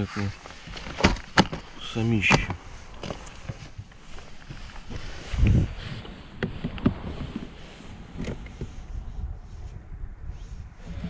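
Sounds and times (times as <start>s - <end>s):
steady low rumble: 1.6s - 11.0s.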